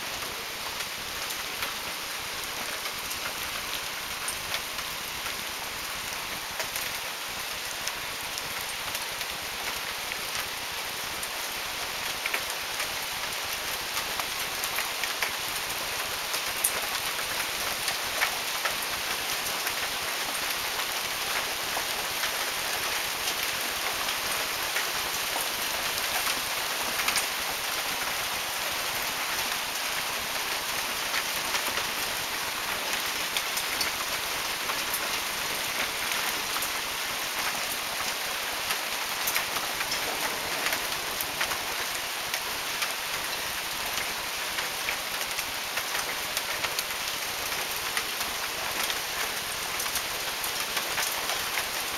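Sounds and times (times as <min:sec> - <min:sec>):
hail pelting lawn and deck: 0:07.5 - 0:51.9.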